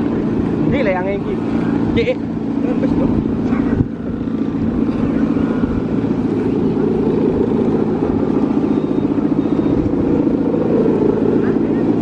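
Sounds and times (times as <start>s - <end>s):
kite humming bow droning: 0.0s - 12.0s.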